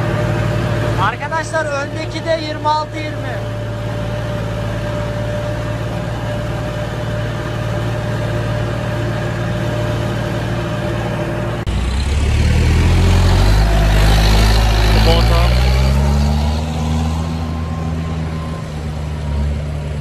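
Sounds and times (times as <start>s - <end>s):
diesel tractor engine running: 0.0s - 20.0s
tractor engine dragging log: 0.0s - 20.0s.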